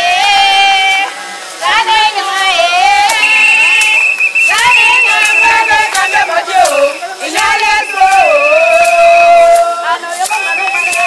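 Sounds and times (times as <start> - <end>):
high singing voice: 0.0 - 11.0.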